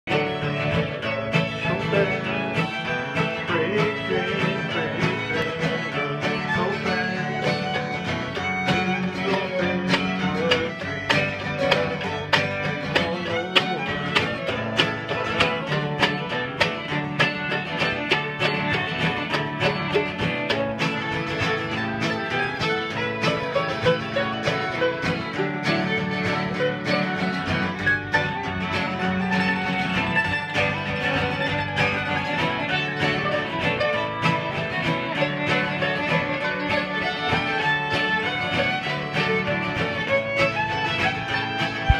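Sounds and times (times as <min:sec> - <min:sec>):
fiddle bowing a melody: 0:00.0 - 0:41.9
strummed acoustic guitar: 0:00.0 - 0:41.9.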